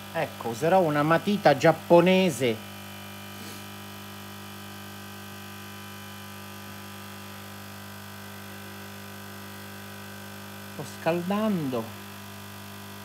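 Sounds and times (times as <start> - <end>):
hot air fan humming: 0.0 - 13.0.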